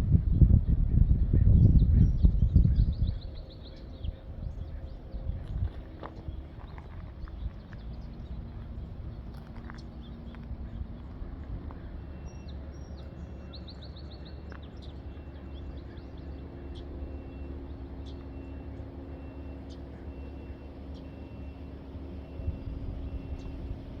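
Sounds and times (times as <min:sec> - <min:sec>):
low rumble and hum: 0:00.0 - 0:24.0
songbirds chirping: 0:00.4 - 0:24.0.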